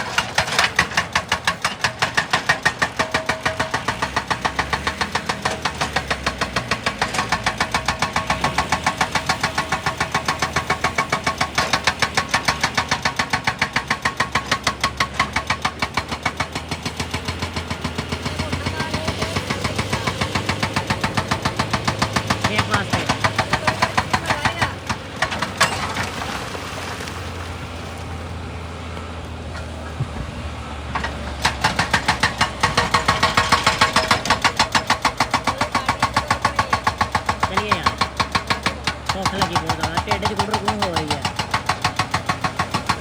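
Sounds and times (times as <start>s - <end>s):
hydraulic breaker hammering rock: 0.0s - 27.7s, 29.5s - 43.0s
excavator engine running: 0.0s - 43.0s.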